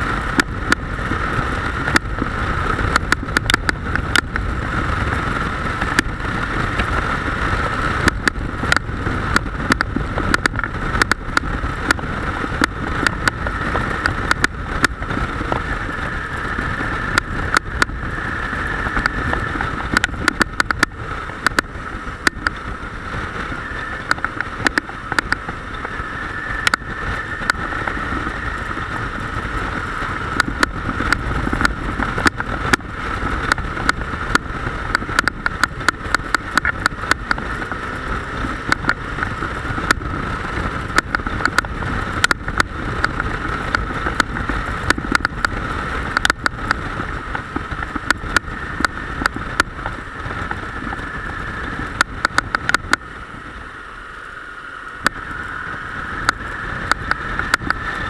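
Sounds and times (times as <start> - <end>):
motorcycle engine drone: 0.0 - 58.0
wind rush on microphone: 0.0 - 58.0.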